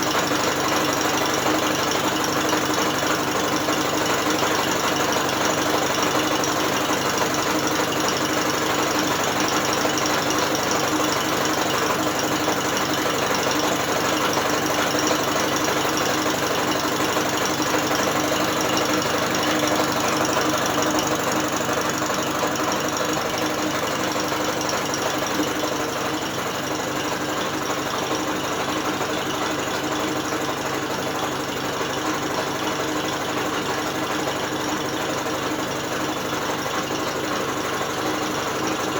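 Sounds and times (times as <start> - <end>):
drill spinning outboard motor: 0.0 - 31.5.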